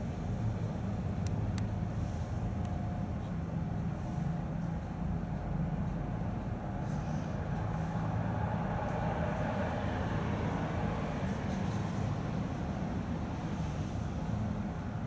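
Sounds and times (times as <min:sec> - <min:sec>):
tram equipment humming: 0:00.0 - 0:15.0.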